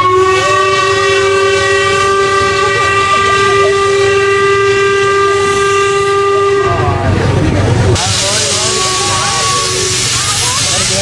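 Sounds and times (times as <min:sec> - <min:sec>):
steam locomotive whistle: 0:00.0 - 0:07.2, 0:08.0 - 0:11.0.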